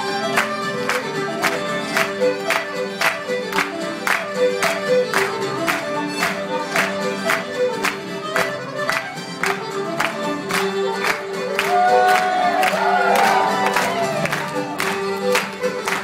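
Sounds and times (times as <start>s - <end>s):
accordion: 0.0s - 16.0s
fiddles: 0.0s - 16.0s.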